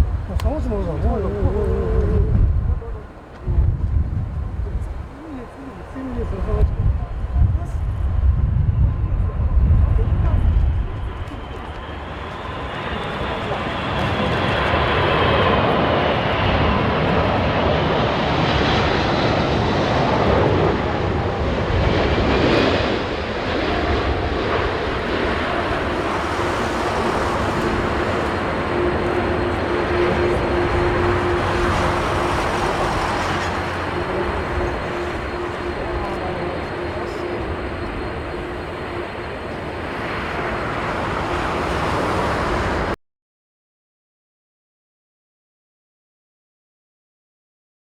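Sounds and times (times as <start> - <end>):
jet airliner passing overhead: 0.0 - 43.0
strong wind: 0.0 - 43.0.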